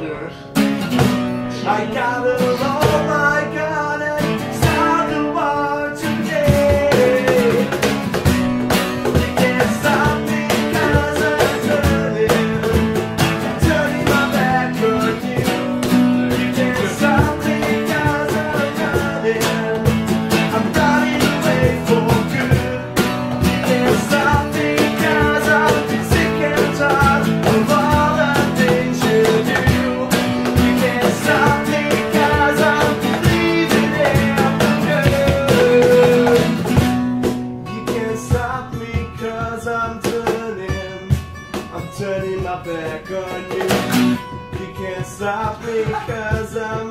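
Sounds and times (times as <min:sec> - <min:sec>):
cajon beat: 0:00.0 - 0:46.9
strummed acoustic guitars: 0:00.0 - 0:46.9
person singing: 0:01.5 - 0:08.2, 0:09.0 - 0:36.8, 0:37.7 - 0:46.9.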